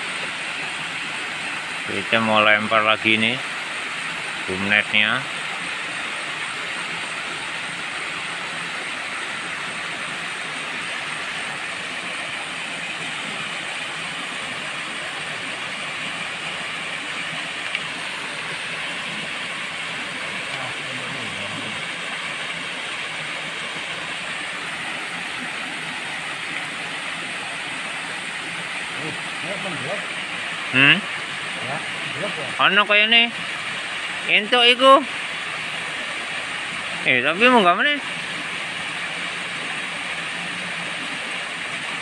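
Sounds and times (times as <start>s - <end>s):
water rushing from cascade: 0.0s - 42.0s.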